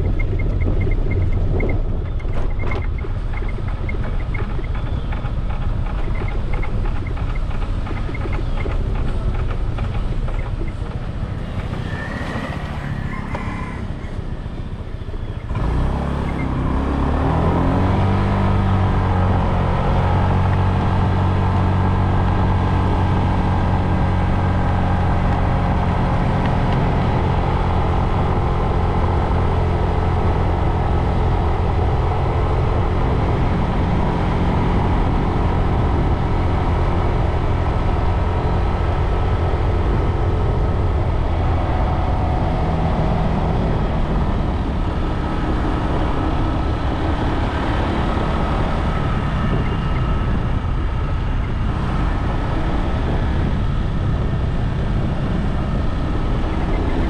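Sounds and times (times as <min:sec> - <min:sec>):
motorbike engine: 0:00.0 - 0:57.0
road noise: 0:00.0 - 0:57.0.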